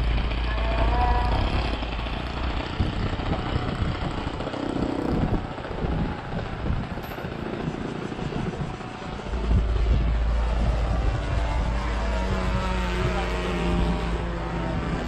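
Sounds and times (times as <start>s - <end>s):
model airplane engine drone: 0.0s - 15.0s
wind noise on microphone: 0.0s - 15.0s.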